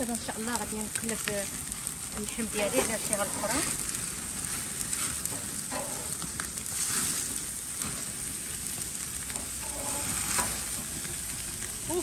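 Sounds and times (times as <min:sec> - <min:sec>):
steak sizzling in butter: 0:00.0 - 0:12.0.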